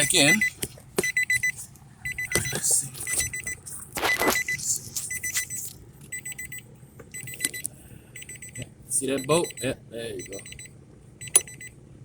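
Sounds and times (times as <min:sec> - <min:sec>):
car warning chime beeping: 0:00.0 - 0:07.6, 0:08.2 - 0:11.8.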